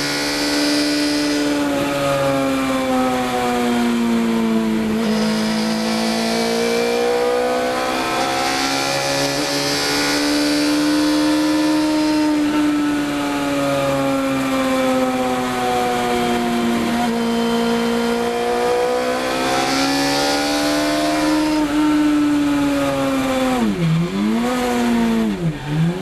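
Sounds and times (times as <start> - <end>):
race car engine from cockpit: 0.0 - 26.0.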